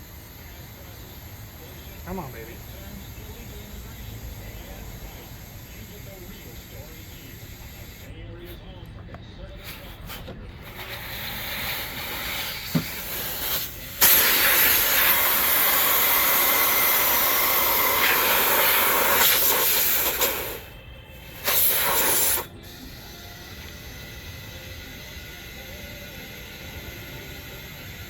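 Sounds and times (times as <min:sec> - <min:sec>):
compressed air hissing into tire: 0:00.0 - 0:08.1, 0:09.6 - 0:28.0.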